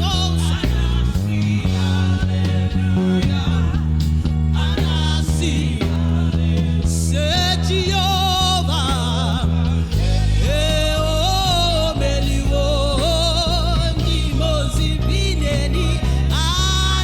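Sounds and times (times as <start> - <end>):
band with sustained bass line: 0.0 - 17.0
singers with vibrato: 0.0 - 17.0.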